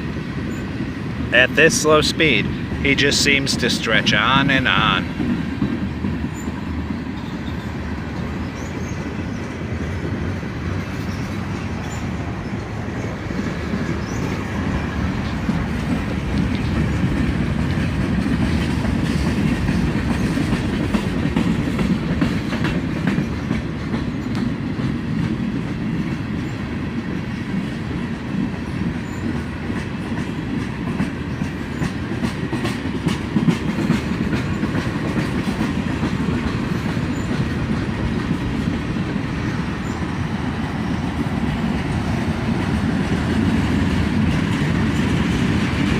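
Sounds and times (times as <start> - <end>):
freight train rumbling past: 0.0 - 45.9
wheels clacking over rail joints: 4.2 - 45.9.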